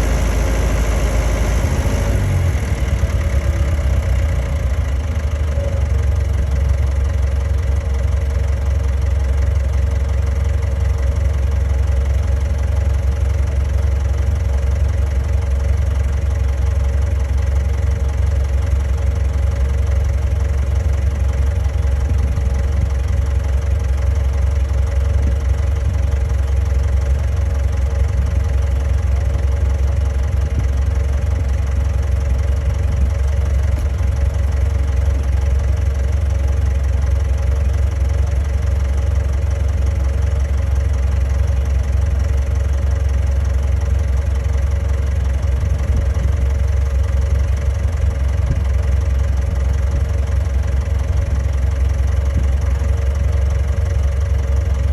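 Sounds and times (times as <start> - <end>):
bulldozer diesel engine idling: 0.0 - 54.9.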